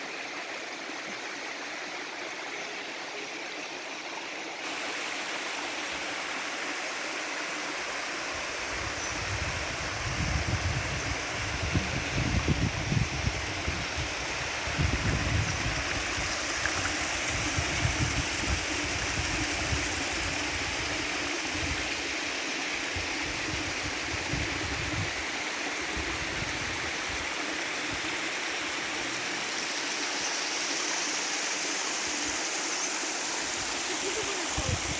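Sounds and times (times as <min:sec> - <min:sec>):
waterfall rushing: 0:04.6 - 0:30.1, 0:31.2 - 0:34.9.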